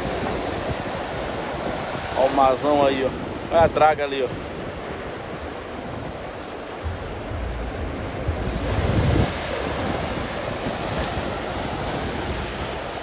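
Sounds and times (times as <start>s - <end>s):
sea waves breaking on rocks: 0.0s - 13.0s
wind buffeting microphone: 0.0s - 13.0s.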